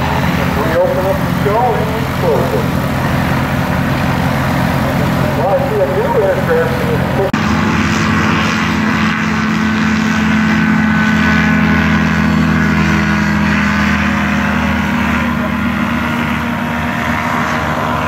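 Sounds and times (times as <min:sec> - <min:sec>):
ultralight aircraft engine drone: 0:00.0 - 0:18.0.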